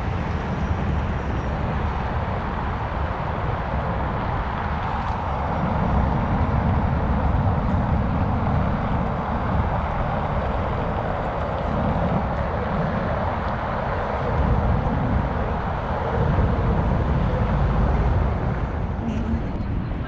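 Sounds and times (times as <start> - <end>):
low city rumble: 0.0 - 20.0.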